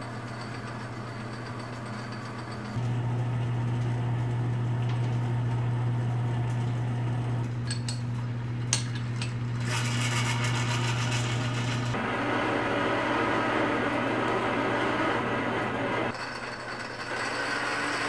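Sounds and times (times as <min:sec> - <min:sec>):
lathe humming: 0:00.0 - 0:07.6, 0:09.4 - 0:18.0.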